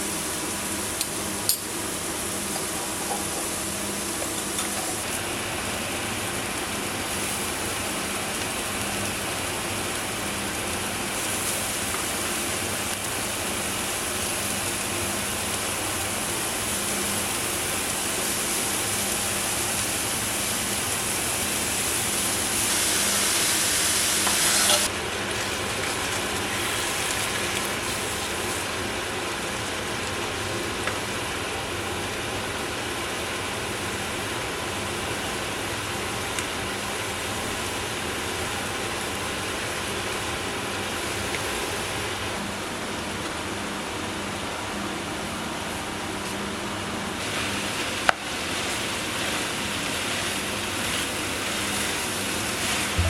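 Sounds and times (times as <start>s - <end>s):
food sizzling in a frying pan: 0.0s - 42.4s, 47.1s - 53.0s.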